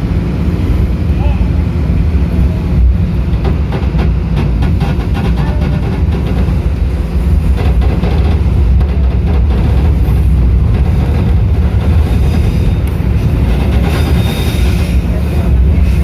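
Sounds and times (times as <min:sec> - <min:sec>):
train rumbling on track: 0:00.0 - 0:16.0
wheels clicking on rails: 0:03.1 - 0:16.0.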